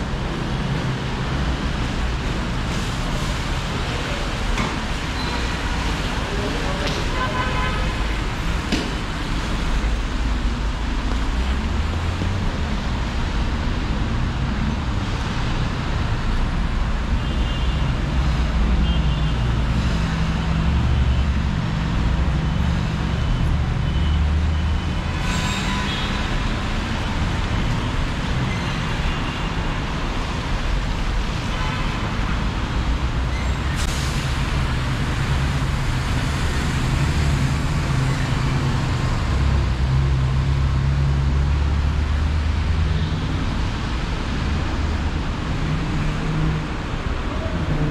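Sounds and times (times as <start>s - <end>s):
rumble of passing traffic: 0.0s - 47.9s.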